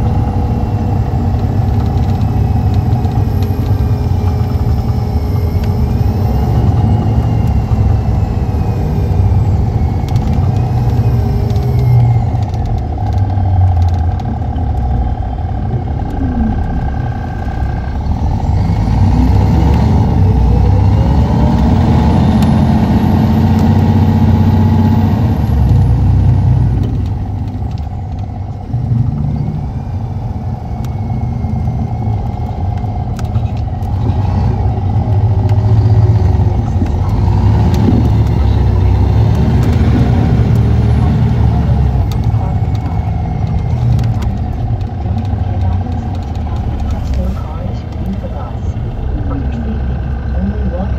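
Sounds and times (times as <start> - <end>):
diesel coach engine running: 0.0 - 50.9.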